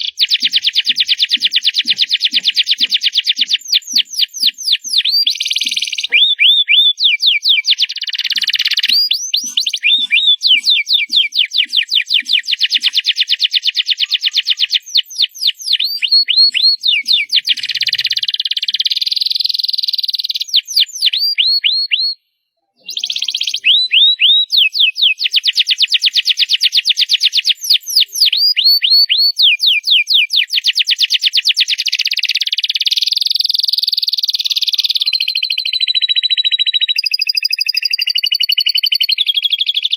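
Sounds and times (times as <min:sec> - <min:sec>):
canary singing trills: 0:00.0 - 0:22.2, 0:22.8 - 0:39.9.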